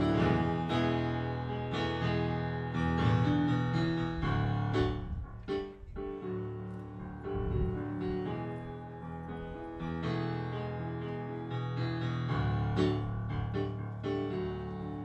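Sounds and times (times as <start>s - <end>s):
keyboard piano chords and melody: 0.0s - 15.0s.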